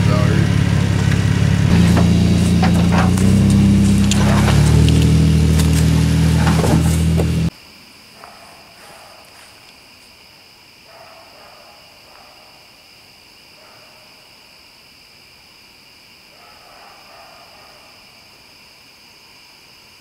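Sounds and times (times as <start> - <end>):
crickets and insects trilling: 0.0 - 20.0.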